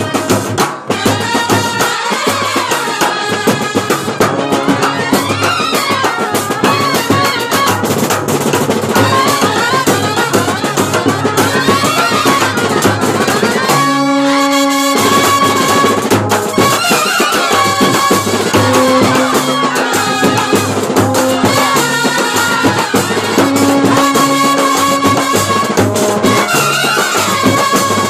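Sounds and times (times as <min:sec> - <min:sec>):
busy drumming with cymbal: 0:00.0 - 0:28.0
drum roll: 0:00.0 - 0:28.0
trumpets and clarinets: 0:00.0 - 0:28.0.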